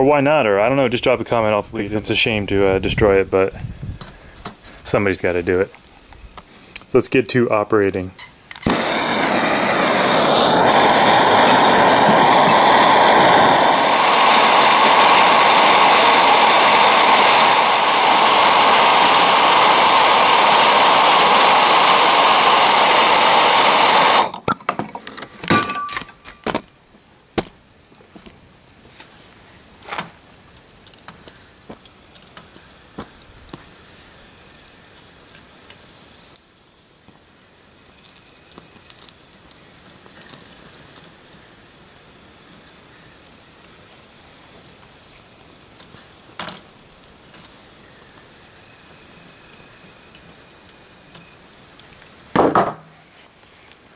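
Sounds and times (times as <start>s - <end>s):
gas torch flame hissing: 0.1s - 24.5s, 28.6s - 53.9s.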